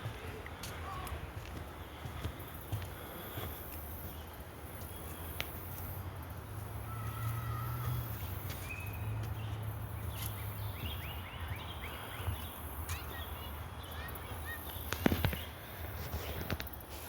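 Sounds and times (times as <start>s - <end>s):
birds calling: 0.0s - 16.8s.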